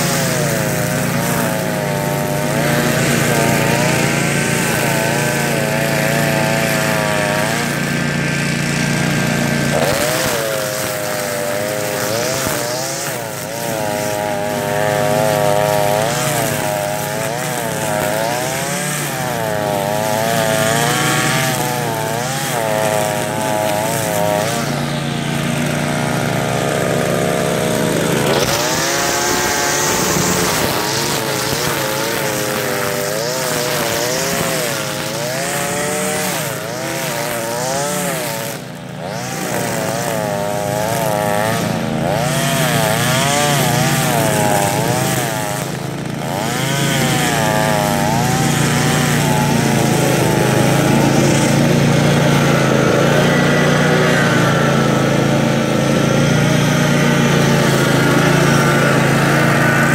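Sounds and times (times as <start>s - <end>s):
string trimmer engine revving: 0.0s - 59.9s.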